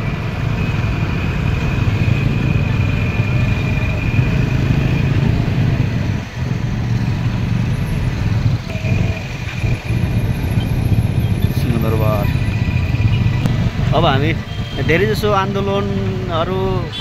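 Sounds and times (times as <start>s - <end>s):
motorcycle engine: 0.0s - 17.0s
road noise: 0.0s - 17.0s.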